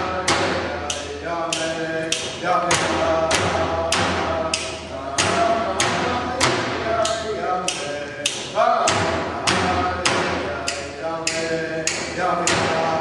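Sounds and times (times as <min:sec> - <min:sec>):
frame drum beating: 0:00.0 - 0:13.0
person singing: 0:00.0 - 0:13.0.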